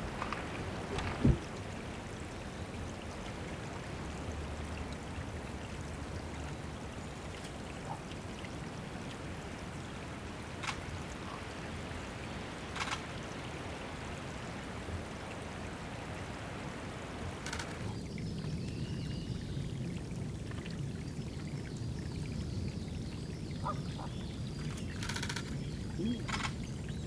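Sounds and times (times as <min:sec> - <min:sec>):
water trickling and pouring: 0:00.0 - 0:27.0.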